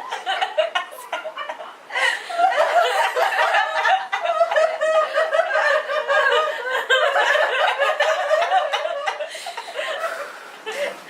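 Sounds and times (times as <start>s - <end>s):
women laughing: 0.0s - 11.0s.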